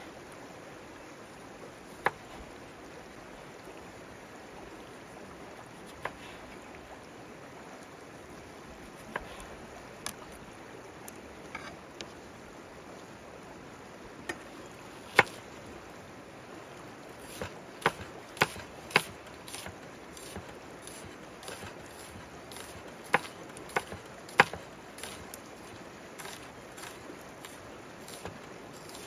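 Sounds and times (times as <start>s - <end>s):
river flowing: 0.0s - 29.0s.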